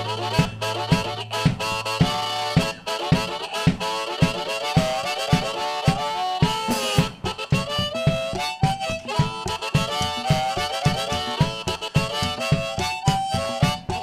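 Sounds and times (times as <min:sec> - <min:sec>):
bass: 0:00.0 - 0:14.0
lead instrument bending notes: 0:00.0 - 0:14.0
steady drum beat: 0:00.0 - 0:14.0.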